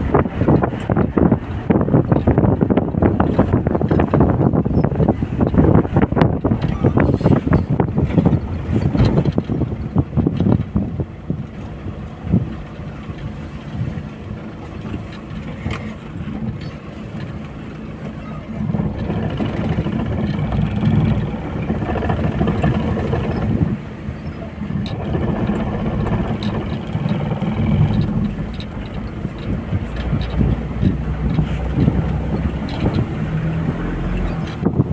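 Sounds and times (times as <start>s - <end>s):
cab rattling over ruts: 0.0s - 34.9s
vehicle engine running: 0.0s - 34.9s.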